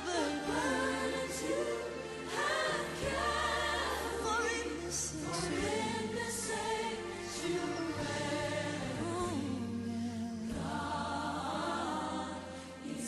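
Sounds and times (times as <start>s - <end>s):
choir singing: 0.0s - 13.0s
instrumental accompaniment with bass: 0.0s - 13.0s.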